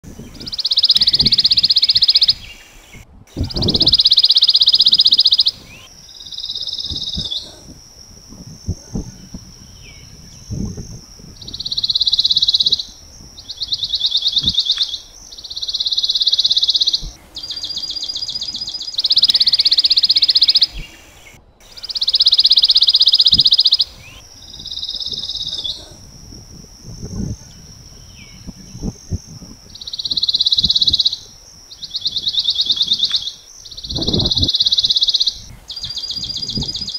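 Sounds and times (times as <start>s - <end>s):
bird trilling song: 0.0s - 36.9s.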